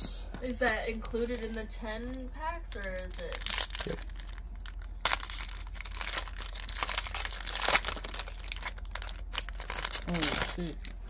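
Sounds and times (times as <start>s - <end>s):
foil wrapper crinkling and tearing: 0.6s - 11.0s.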